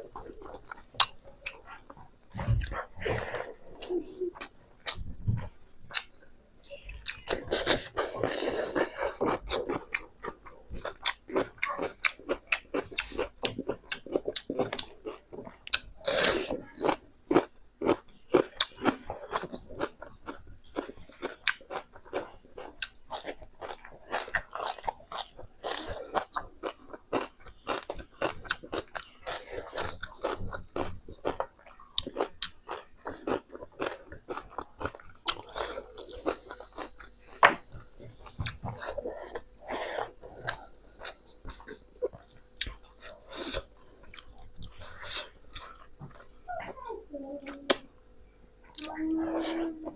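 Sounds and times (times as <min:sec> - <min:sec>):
person chewing and crunching: 0:00.0 - 0:06.2, 0:07.0 - 0:46.4.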